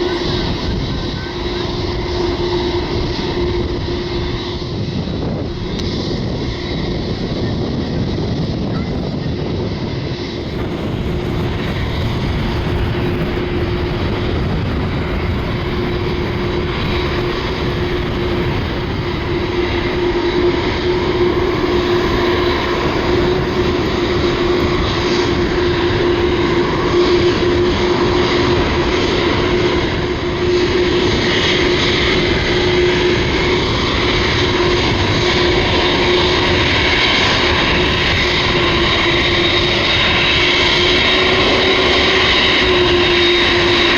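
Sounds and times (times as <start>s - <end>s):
high jet engine whine: 0.0s - 43.9s
jet engines running: 0.0s - 43.9s.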